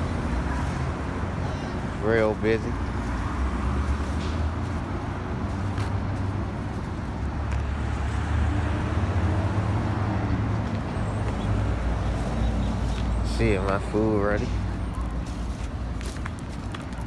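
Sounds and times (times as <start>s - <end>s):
street traffic engine rumble: 0.0s - 17.0s.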